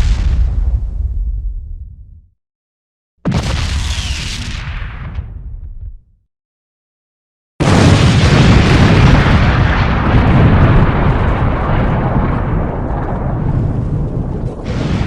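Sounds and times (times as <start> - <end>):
explosion bursting: 0.0 - 2.2, 3.2 - 6.0, 7.6 - 15.0
explosion rumble: 0.0 - 2.3, 3.2 - 6.2, 7.6 - 15.0.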